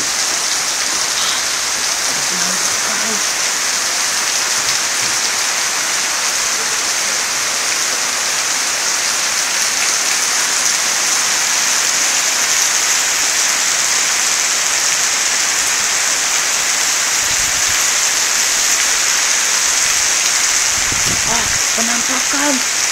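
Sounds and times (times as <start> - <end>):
heavy rain on water and paving: 0.0 - 22.9.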